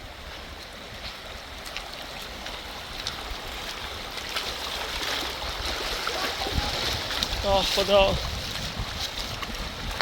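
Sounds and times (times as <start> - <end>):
river water rushing: 0.0 - 10.0
wind buffeting microphone: 0.0 - 10.0.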